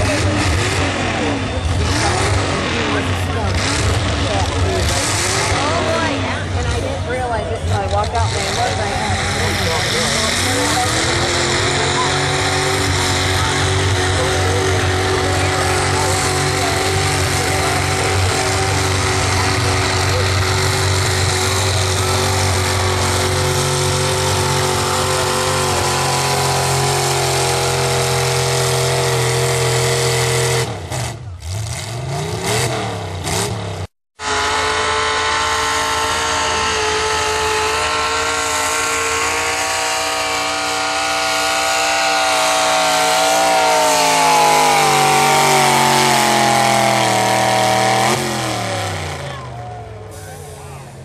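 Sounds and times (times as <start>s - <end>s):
truck engine revving high: 0.0s - 51.0s.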